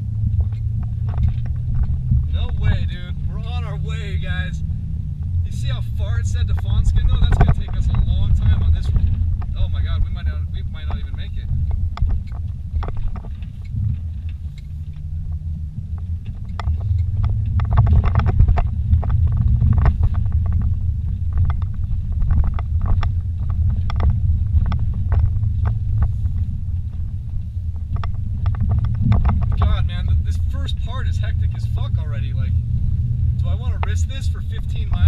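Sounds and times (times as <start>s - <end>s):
knocks and rattles over bumps: 0.0s - 35.0s
vehicle rumbling on dirt track: 0.0s - 35.0s.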